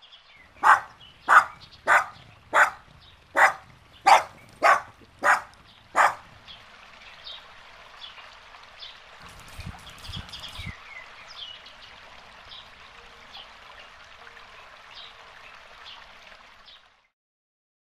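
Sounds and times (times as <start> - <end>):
small birds chirping: 0.0 - 16.8
steady outdoor hiss: 0.0 - 17.1.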